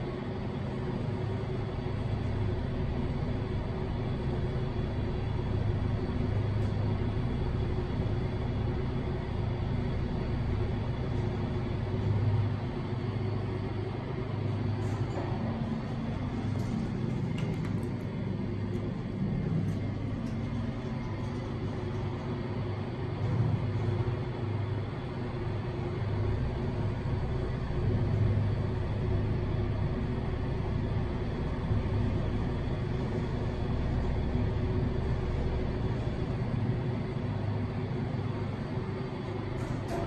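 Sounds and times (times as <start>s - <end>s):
elevator rumble and hum: 0.0s - 40.0s.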